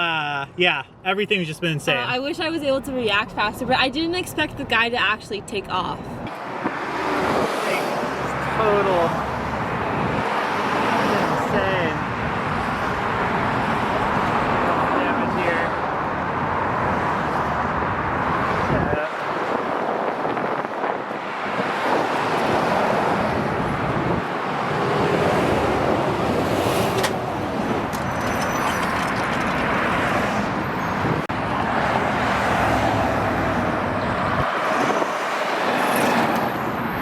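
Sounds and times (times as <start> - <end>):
freeway traffic passing: 0.0 - 37.0.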